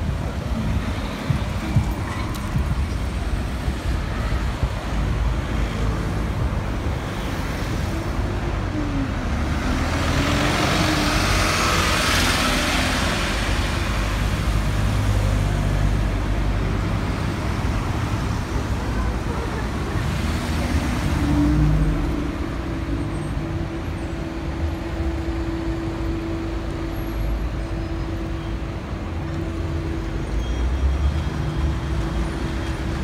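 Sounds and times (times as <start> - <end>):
traffic engine rumble: 0.0 - 33.0.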